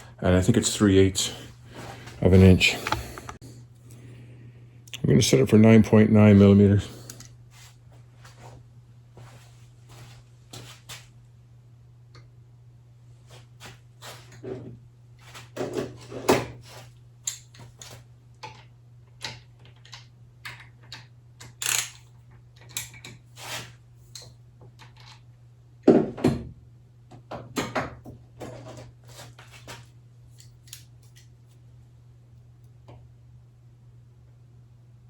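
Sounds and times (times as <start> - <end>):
steady low hum: 0.0 - 27.3, 28.2 - 35.0.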